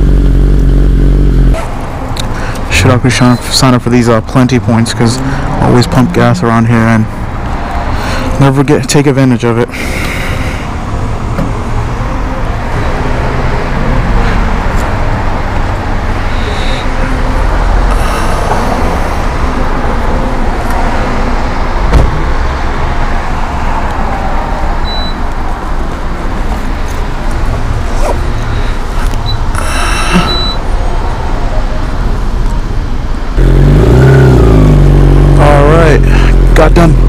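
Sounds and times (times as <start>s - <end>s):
road traffic noise: 0.0s - 37.0s.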